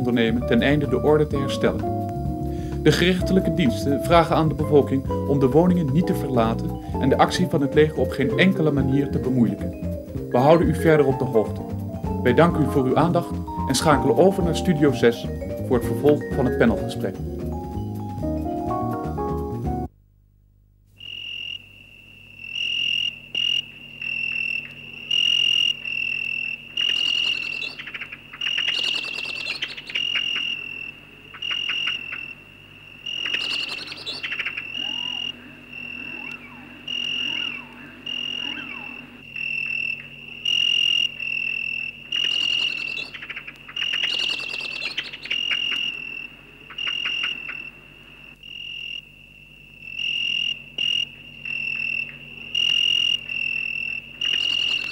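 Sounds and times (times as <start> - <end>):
cricket chirping: 0.0 - 19.9, 20.9 - 54.9.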